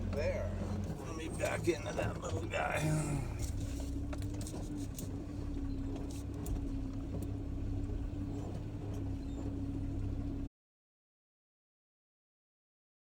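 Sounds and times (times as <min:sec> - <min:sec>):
truck engine rumble: 0:00.0 - 0:10.5.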